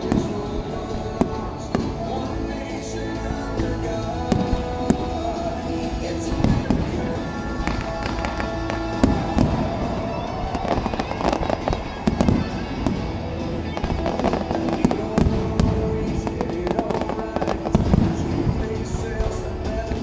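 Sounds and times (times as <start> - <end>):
fireworks bangs: 0.0 - 20.0
fireworks bursting and crackling: 0.0 - 20.0
music over loudspeakers: 0.0 - 20.0.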